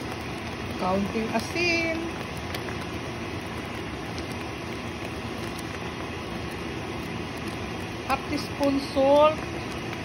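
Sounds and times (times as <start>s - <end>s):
pot simmering with hiss and rumble: 0.0s - 10.0s.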